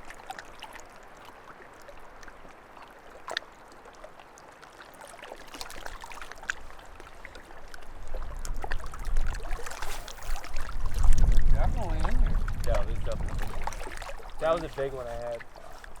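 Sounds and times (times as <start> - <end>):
water lapping at shoreline: 0.0 - 16.0.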